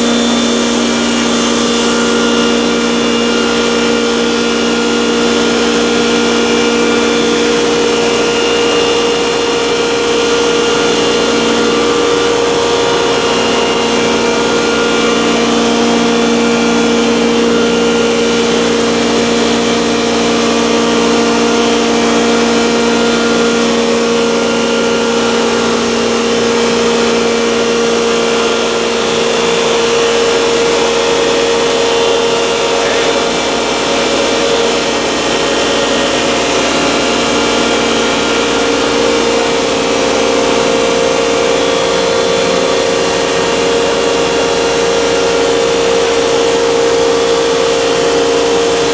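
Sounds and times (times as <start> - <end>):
spice grinder motor drone: 0.0 - 48.9.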